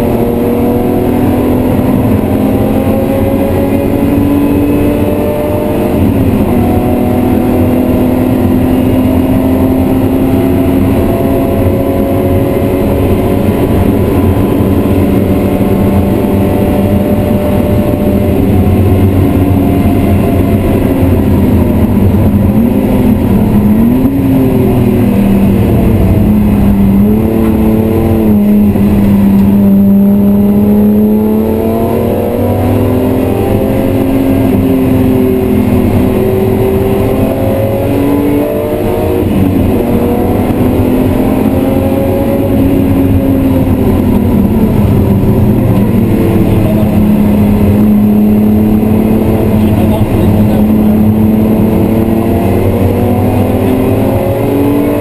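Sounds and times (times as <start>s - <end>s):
car engine under load: 0.0s - 55.0s.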